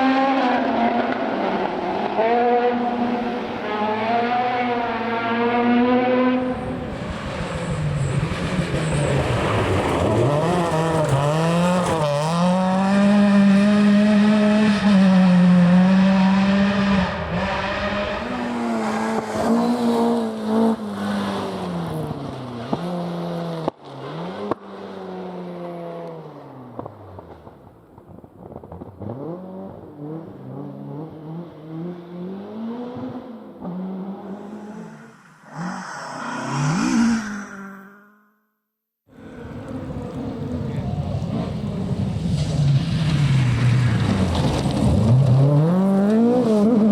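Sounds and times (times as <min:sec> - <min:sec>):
rally car engine revving: 0:00.0 - 0:27.5, 0:28.5 - 0:38.2, 0:39.2 - 0:46.9.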